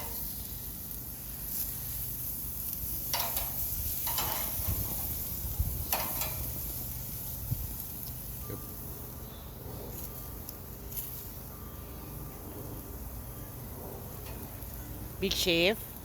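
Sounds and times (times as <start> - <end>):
chicken sizzling on a grill: 0.0 - 16.0.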